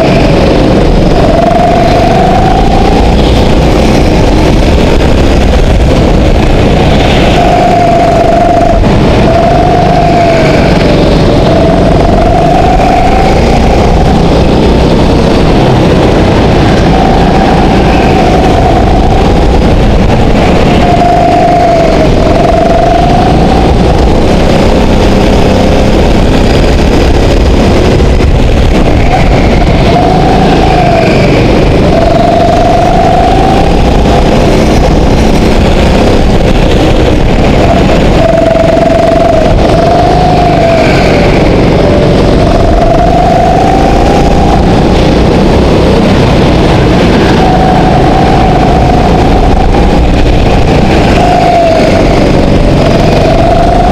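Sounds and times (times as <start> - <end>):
go-kart engine revving: 0.0 - 53.9.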